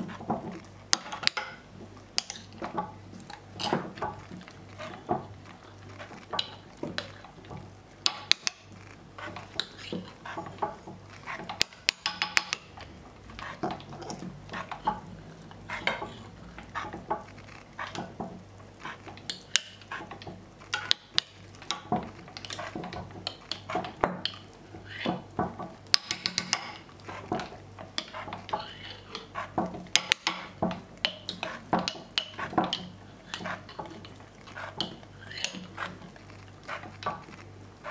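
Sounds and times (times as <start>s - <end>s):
faint steady low hum: 0.0s - 37.9s
hand-cranked meat grinder clicking: 0.0s - 37.9s.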